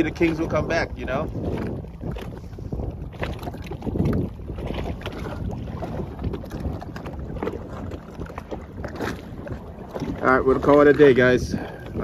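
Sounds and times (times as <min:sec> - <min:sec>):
jet ski engine rumble: 0:00.0 - 0:12.0
water slapping hull: 0:00.0 - 0:12.0
wind buffeting microphone: 0:00.0 - 0:12.0.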